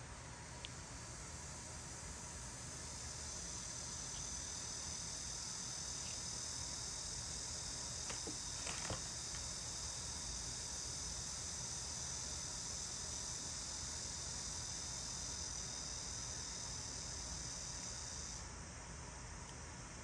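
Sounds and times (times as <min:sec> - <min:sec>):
high-pitched chirring hiss: 0:00.0 - 0:20.0.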